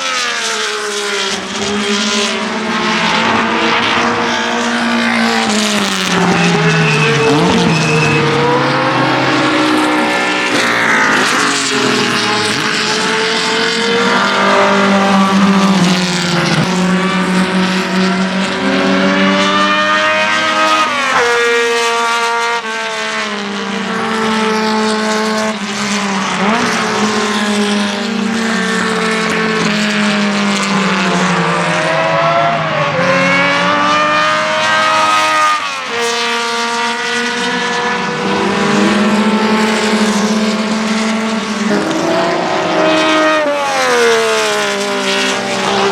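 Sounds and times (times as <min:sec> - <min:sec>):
other racing car engines: 0:00.0 - 0:45.9
racing car engine at full speed: 0:00.0 - 0:45.9.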